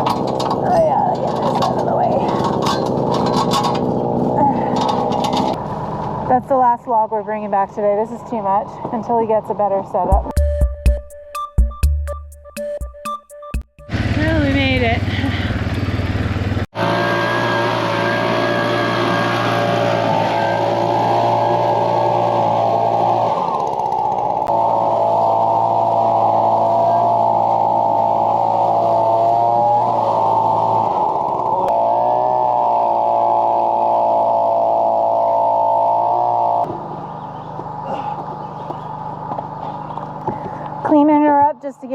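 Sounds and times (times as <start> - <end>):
engine running steadily: 0.0 - 10.4, 13.9 - 41.0.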